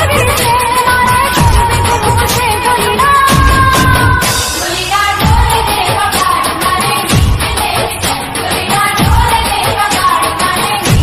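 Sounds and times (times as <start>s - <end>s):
thumping drum beat: 0.0s - 10.0s, 10.8s - 11.0s
loud dance music: 0.0s - 11.0s.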